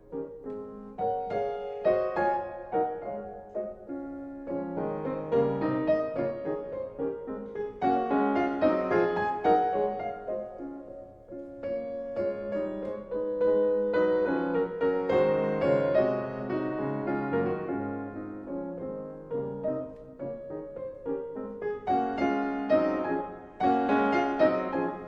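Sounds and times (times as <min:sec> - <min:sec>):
gentle solo piano: 0:00.0 - 0:25.0.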